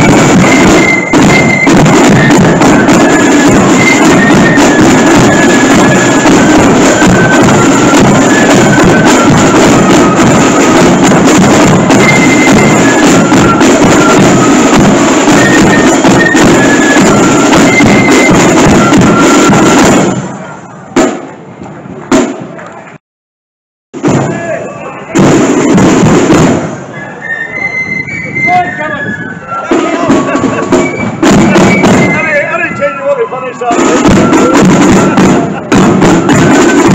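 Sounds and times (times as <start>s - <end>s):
loud drumming: 0.0s - 21.4s, 22.1s - 22.6s, 24.0s - 27.0s, 29.5s - 36.9s
flute melody: 0.0s - 21.6s, 24.0s - 36.9s.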